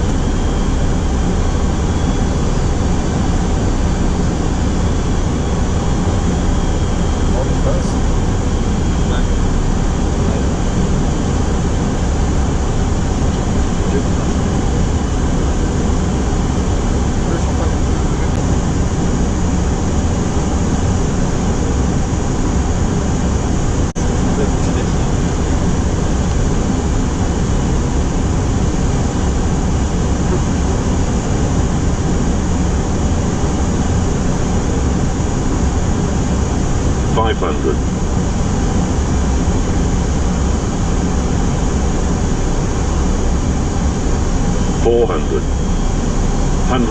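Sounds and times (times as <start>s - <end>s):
air conditioning: 0.0s - 46.9s
airflow and engine rumble in cockpit: 0.0s - 46.9s.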